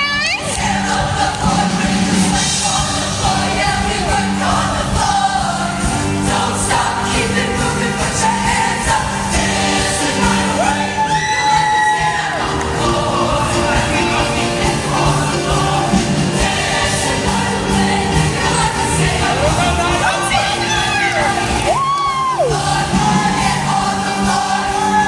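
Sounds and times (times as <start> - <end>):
upbeat accompaniment: 0.0 - 25.0
choir singing: 0.1 - 25.0.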